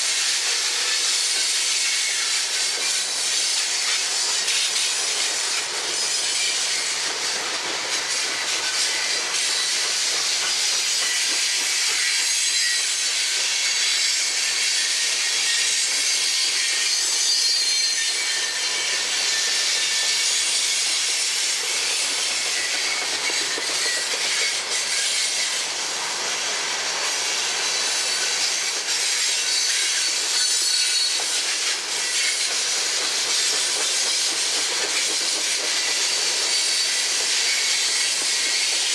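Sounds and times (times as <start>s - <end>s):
steel wheels hissing on rails: 0.0s - 38.9s.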